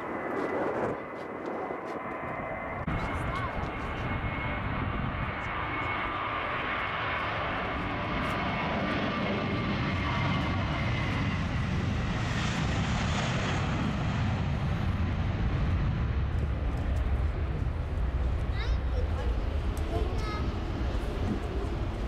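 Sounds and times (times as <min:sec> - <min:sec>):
jet engines roaring on takeoff: 0:00.0 - 0:22.0.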